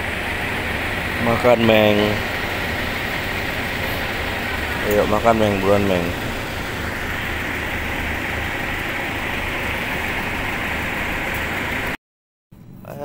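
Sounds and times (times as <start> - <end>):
engine idling: 0.0 - 12.0
steady hiss: 0.0 - 12.0.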